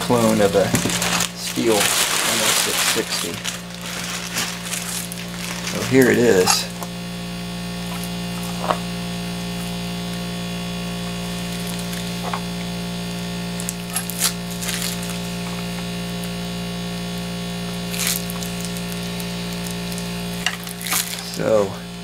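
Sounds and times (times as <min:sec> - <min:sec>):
plastic wrapping rustling: 0:00.0 - 0:06.9, 0:07.8 - 0:21.6
electrical mains hum: 0:00.0 - 0:22.0.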